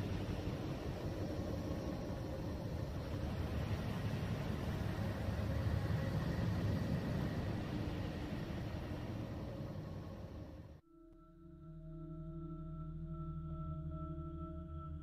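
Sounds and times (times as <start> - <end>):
faint hum tones: 0.0 - 15.0.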